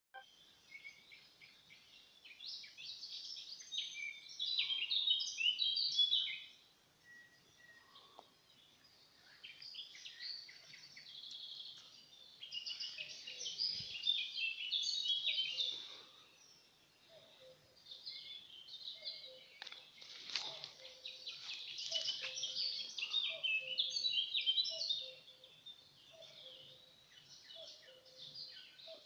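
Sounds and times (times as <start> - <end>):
songbirds chirping: 0.2 - 29.0.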